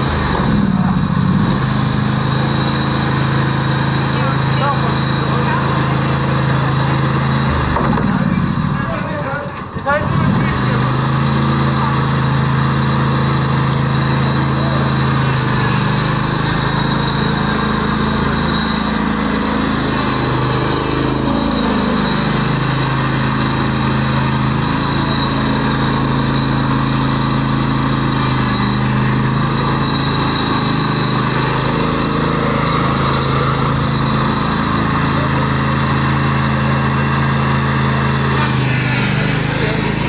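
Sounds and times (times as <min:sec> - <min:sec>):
ride-on lawn mower engine running: 0:00.0 - 0:40.0.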